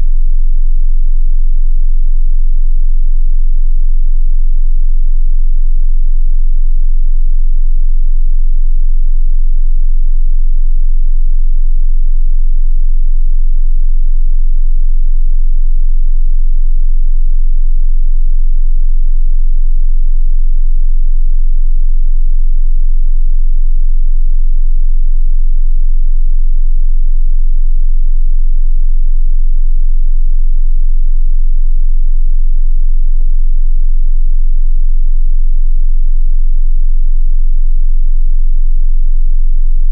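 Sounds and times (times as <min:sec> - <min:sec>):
low bass sine tone: 0:00.0 - 0:39.9.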